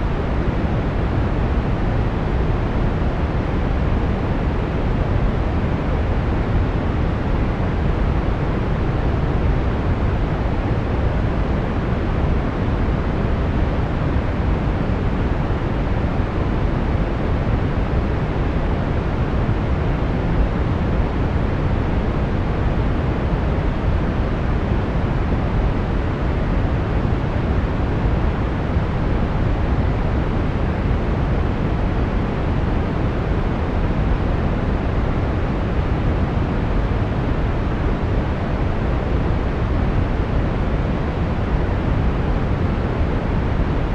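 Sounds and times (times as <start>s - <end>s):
brown noise: 0.0s - 43.9s.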